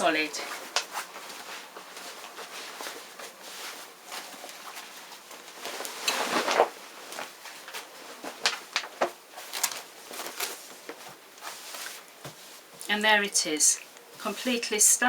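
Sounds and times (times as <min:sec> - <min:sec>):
denim cloth rustling: 0:00.0 - 0:15.0.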